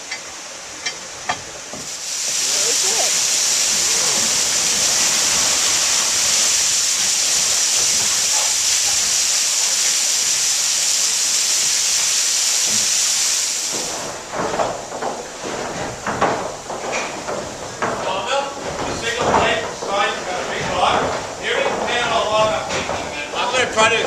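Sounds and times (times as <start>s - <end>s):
water rushing onto water wheel: 0.0s - 24.0s.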